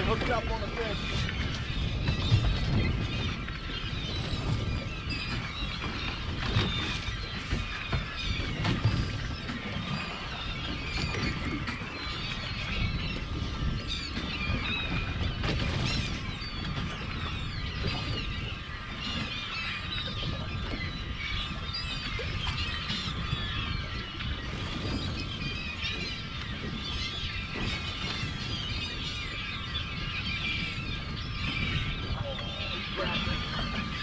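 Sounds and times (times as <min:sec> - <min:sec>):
seabirds calling: 0:00.0 - 0:34.0
wind buffeting microphone: 0:00.0 - 0:34.0.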